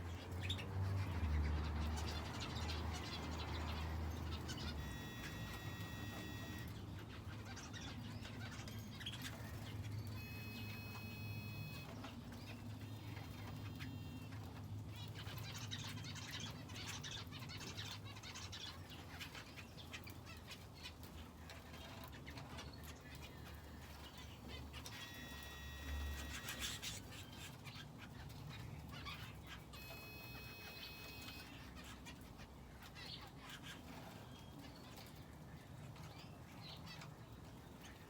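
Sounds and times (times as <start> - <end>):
finches and canary chirping: 0.0 - 38.0.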